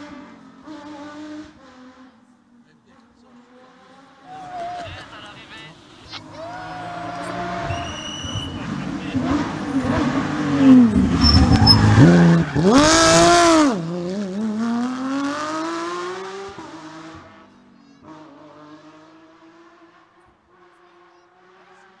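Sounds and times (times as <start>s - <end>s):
race car engine passing: 0.0s - 22.0s.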